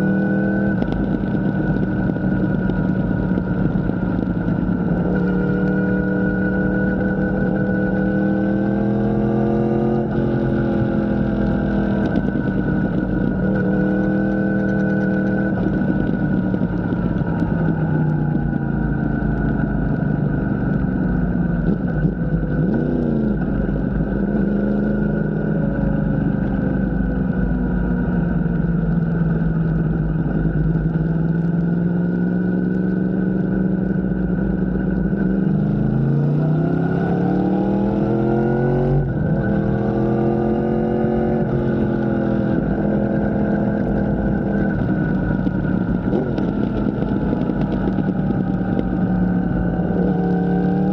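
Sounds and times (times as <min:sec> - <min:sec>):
vehicle engine revving: 0:00.0 - 0:27.4, 0:28.4 - 0:50.9.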